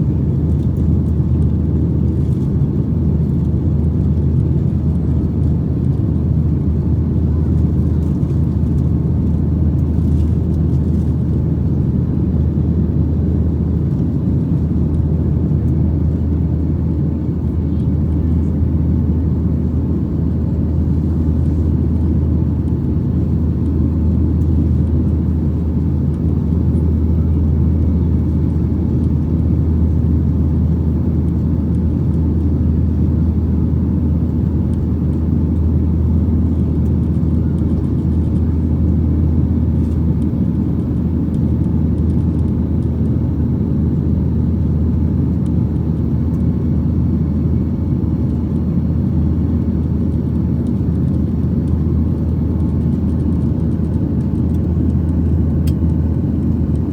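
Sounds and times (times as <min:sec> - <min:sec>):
airplane cabin jet engine rumble: 0:00.0 - 0:56.9.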